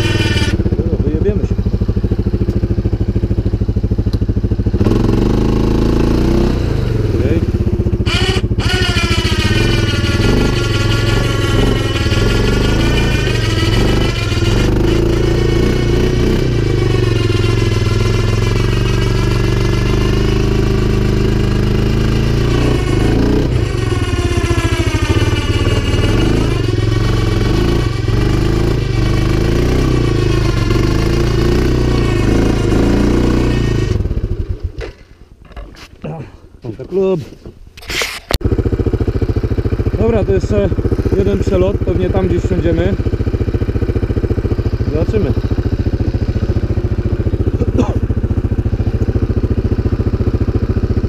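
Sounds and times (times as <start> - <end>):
engine revving under load: 0.0 - 34.9, 37.8 - 51.0.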